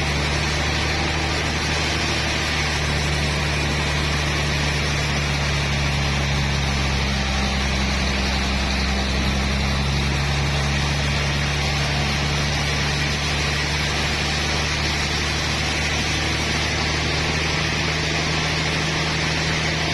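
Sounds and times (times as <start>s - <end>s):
sawmill machinery drone: 0.0s - 19.9s.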